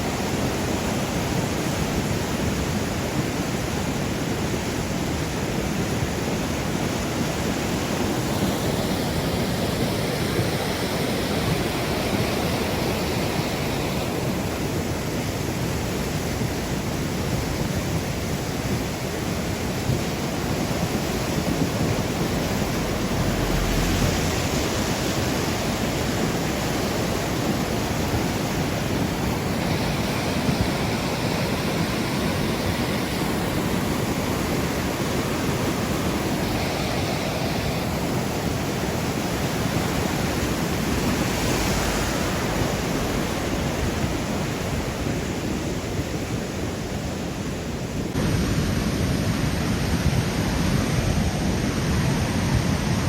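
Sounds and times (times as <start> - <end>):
floodwater rushing: 0.0 - 49.6.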